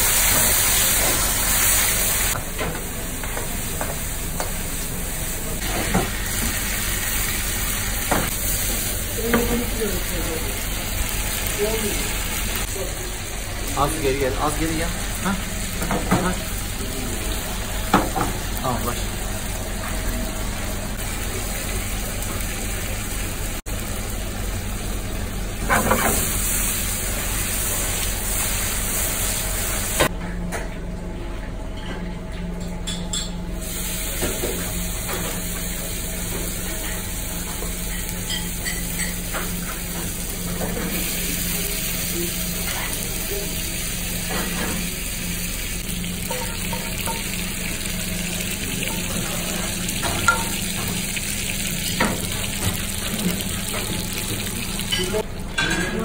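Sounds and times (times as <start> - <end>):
food sizzling in a frying pan: 0.0 - 2.5, 3.1 - 30.1, 33.6 - 55.3.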